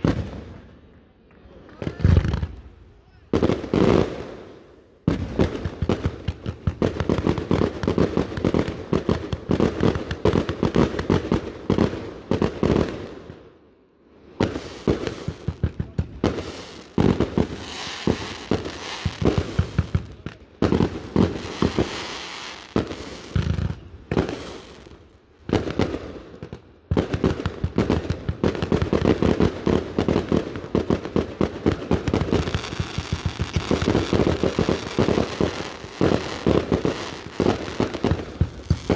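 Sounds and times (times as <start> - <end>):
fireworks bangs: 0.0 - 0.8, 1.7 - 13.2, 14.4 - 38.9
fireworks crackling: 3.4 - 13.2, 14.3 - 38.9.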